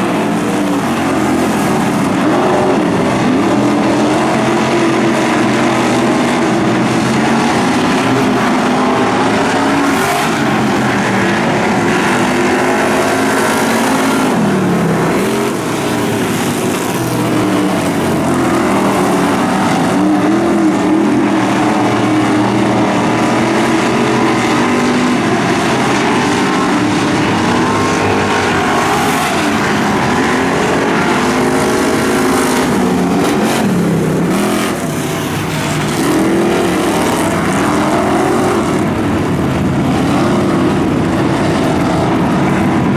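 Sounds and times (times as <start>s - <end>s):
race car engines: 0.0s - 42.9s.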